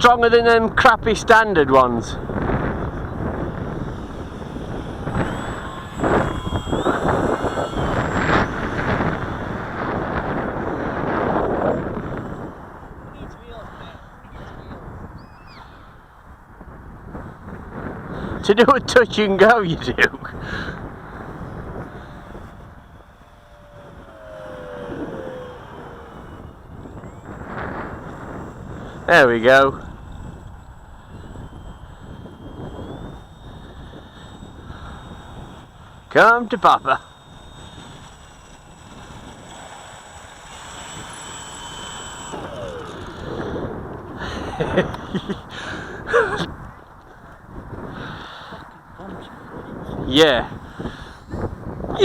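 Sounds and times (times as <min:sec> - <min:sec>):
drone motor and propeller whine: 0:00.0 - 0:52.0
wind buffeting microphone: 0:00.0 - 0:52.0.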